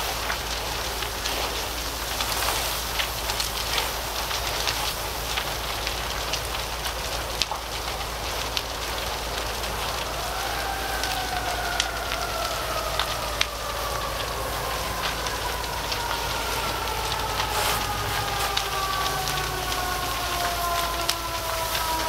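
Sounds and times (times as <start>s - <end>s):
fire crackling and popping: 0.0s - 22.0s
siren: 0.0s - 22.0s
steady rushing fire noise: 0.0s - 22.0s.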